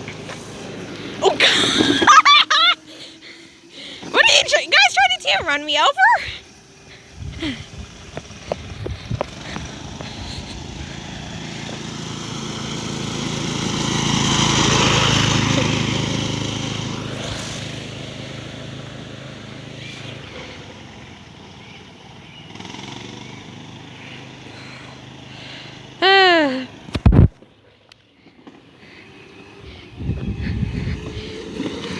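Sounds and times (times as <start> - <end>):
mini bike engine passing: 0.0 - 31.9.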